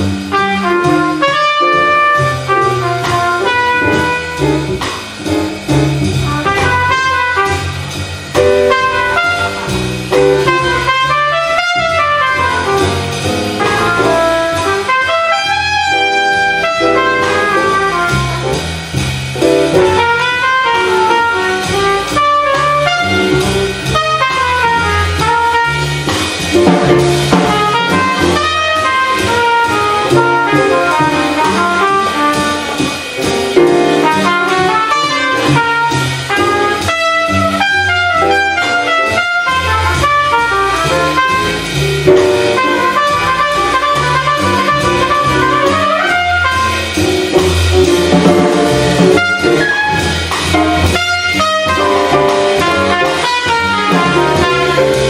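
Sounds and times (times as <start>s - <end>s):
drum kit: 0.0s - 55.0s
jazz trumpet solo: 0.0s - 55.0s
plucked upright bass: 0.0s - 55.0s.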